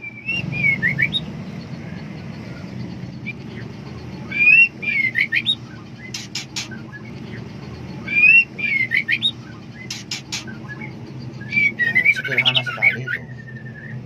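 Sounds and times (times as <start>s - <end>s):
bird calling: 0.0s - 14.0s
low steady hum: 0.0s - 14.0s.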